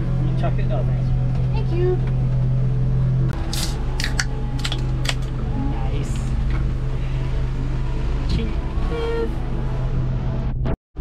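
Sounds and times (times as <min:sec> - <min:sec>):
low engine hum: 0:00.0 - 0:10.7.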